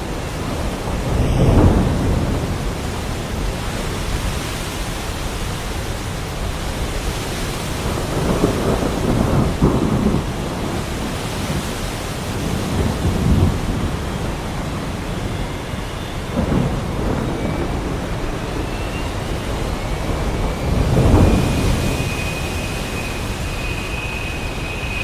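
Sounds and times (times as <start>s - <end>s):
heavy rain: 0.0s - 25.0s
rolling thunder: 0.0s - 25.0s.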